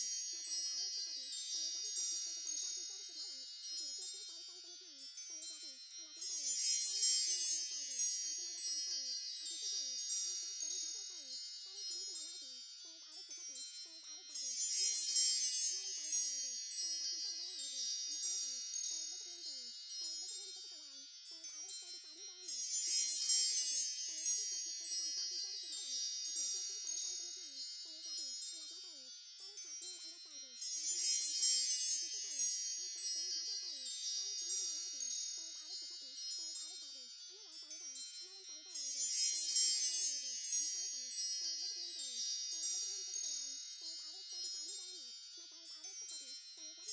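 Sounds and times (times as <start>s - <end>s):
wind chimes tinkling: 0.0s - 46.9s.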